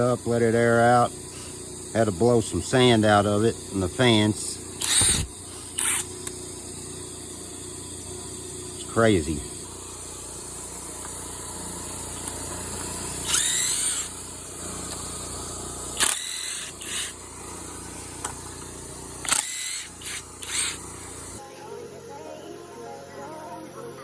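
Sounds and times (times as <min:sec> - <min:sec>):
impact driver motor whining: 0:00.0 - 0:21.5.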